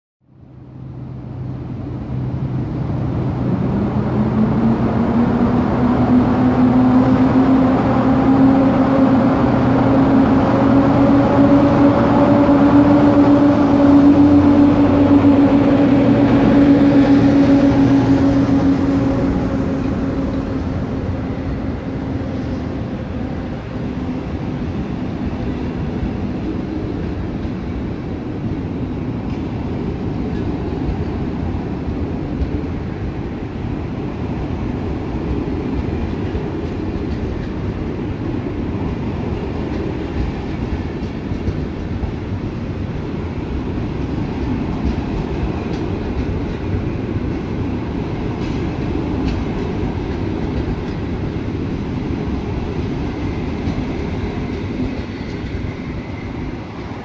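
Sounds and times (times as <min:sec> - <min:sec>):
electric locomotive whine: 0:00.3 - 0:57.0
train coaches rumbling by: 0:00.3 - 0:57.0.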